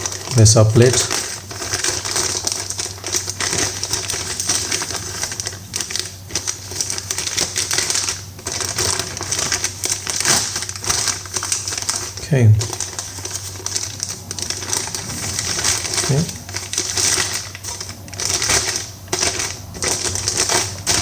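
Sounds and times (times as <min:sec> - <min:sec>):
packaging and metal parts clicking: 0:00.0 - 0:21.0.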